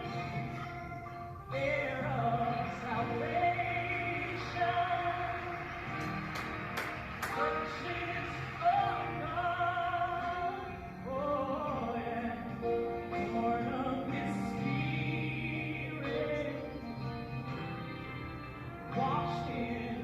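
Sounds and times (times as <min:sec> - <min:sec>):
voice singing with vibrato: 0:00.0 - 0:06.6, 0:07.2 - 0:20.0
instrumental accompaniment: 0:00.0 - 0:20.0.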